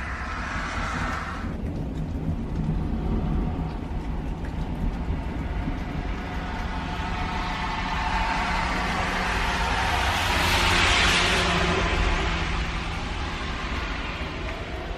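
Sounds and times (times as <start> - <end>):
outdoor warning siren: 0.0 - 1.6, 2.7 - 14.9
steady low rumble: 0.0 - 14.9.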